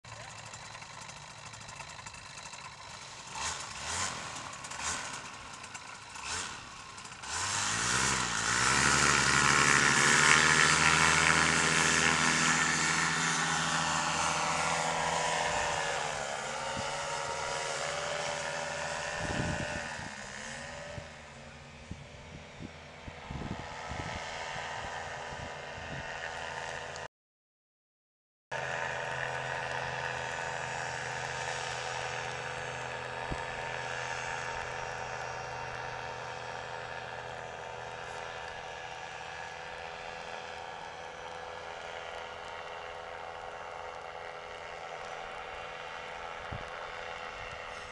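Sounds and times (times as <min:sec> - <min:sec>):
paramotor engine and propeller: 0:00.0 - 0:27.1, 0:28.5 - 0:47.9.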